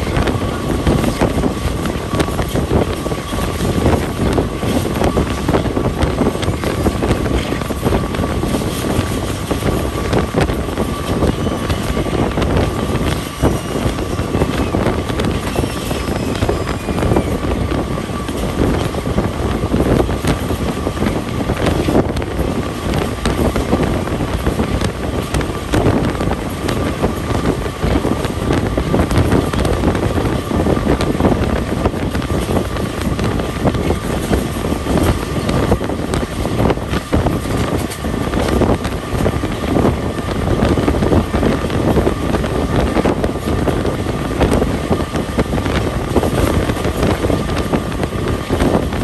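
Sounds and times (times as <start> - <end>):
train wheels rumbling on rails: 0.0 - 49.0
wind buffeting microphone: 0.0 - 49.0.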